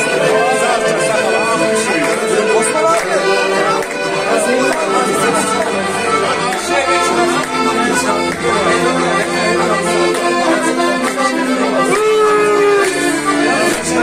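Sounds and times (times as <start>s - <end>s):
button accordion dance tune: 0.0s - 14.0s
crowd clapping along: 0.0s - 14.0s.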